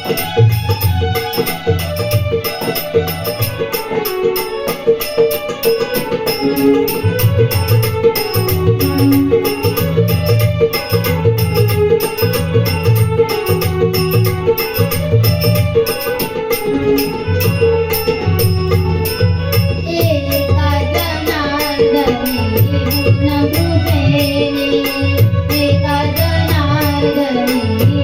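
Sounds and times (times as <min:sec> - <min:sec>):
instrumental melody line: 0:00.0 - 0:28.0
jingling percussion: 0:00.0 - 0:28.0.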